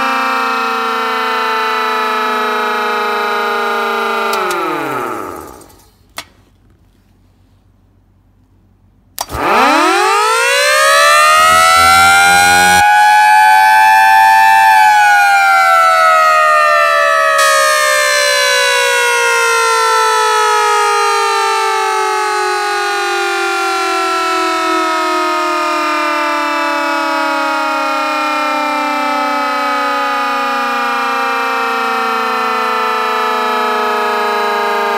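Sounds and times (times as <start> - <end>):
dual-tone siren wailing: 0.0 - 5.8, 9.2 - 34.9.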